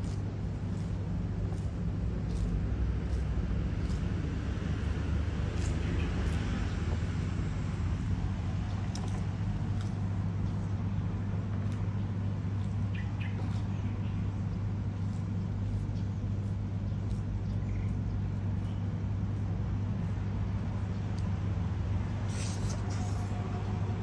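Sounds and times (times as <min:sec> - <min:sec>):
low hum: 0:00.0 - 0:24.0
tortoise biting lettuce: 0:00.0 - 0:24.0.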